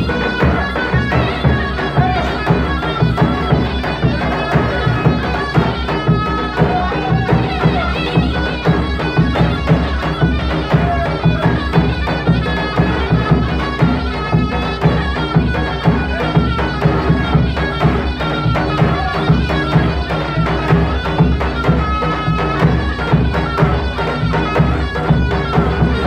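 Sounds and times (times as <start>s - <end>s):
drum beating steady rhythm: 0.0s - 26.0s.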